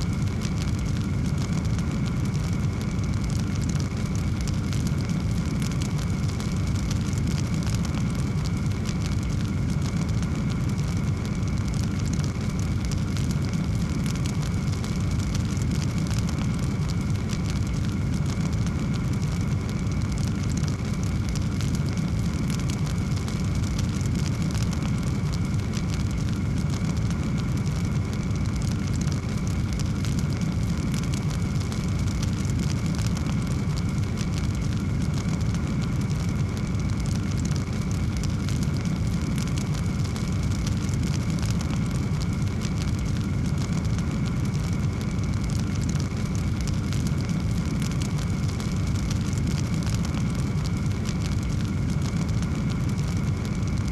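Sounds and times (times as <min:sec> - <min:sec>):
wood fire burning and crackling: 0:00.0 - 0:53.9.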